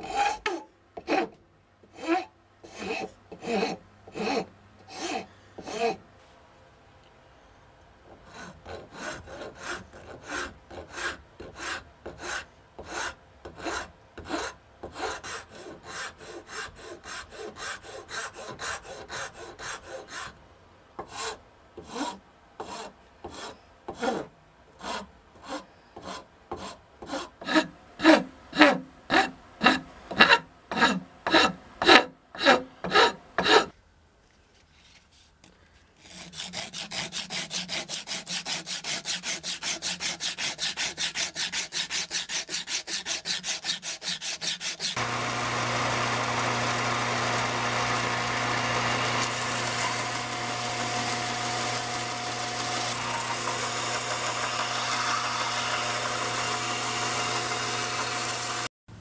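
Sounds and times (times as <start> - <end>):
hand file rasping on wood: 2.0 - 6.0, 8.2 - 20.4, 21.0 - 33.7, 36.0 - 58.7.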